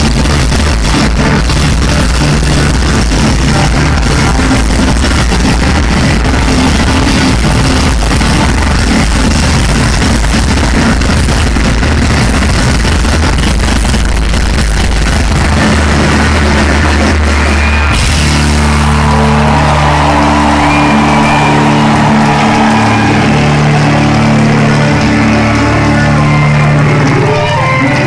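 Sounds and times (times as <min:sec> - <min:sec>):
loud live rock band: 0:00.0 - 0:28.0.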